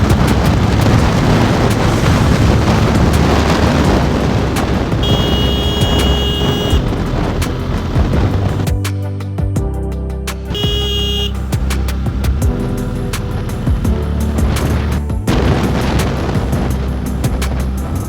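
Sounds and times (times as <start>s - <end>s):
wind buffeting microphone: 0.0s - 8.9s, 11.3s - 18.0s.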